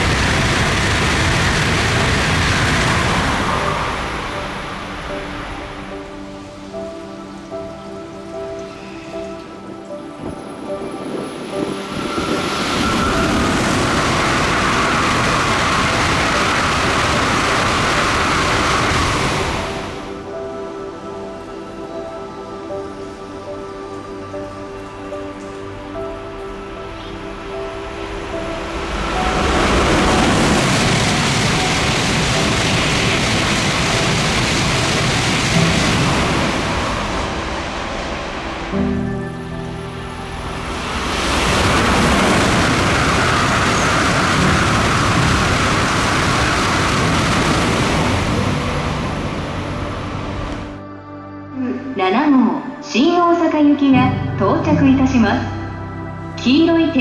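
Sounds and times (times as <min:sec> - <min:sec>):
rush of air and wheel noise: 0:00.0 - 0:08.5, 0:09.1 - 0:21.4, 0:25.2 - 0:50.9
train passing at high speed: 0:00.0 - 0:51.1.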